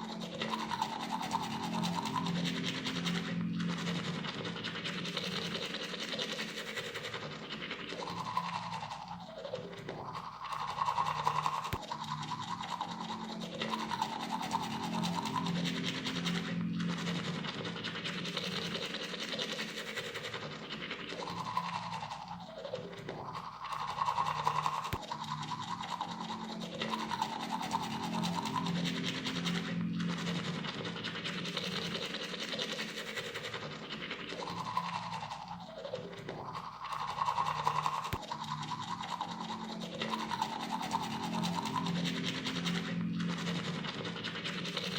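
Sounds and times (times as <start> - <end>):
toothbrush scrubbing teeth: 0.2 - 44.9.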